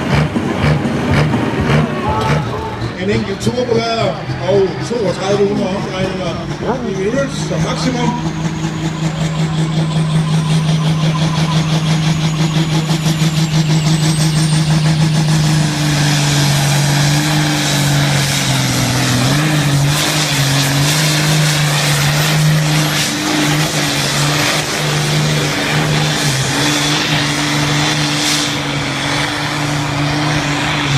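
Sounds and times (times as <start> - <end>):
tractor diesel engine at high revs: 0.0 - 30.9.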